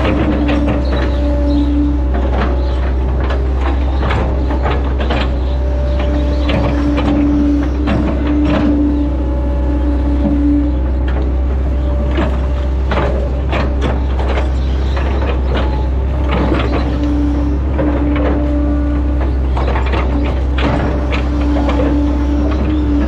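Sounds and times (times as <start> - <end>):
diesel engine droning: 0.0 - 23.0
hydraulic whine: 0.0 - 23.0
machine clanks and knocks: 0.0 - 23.0.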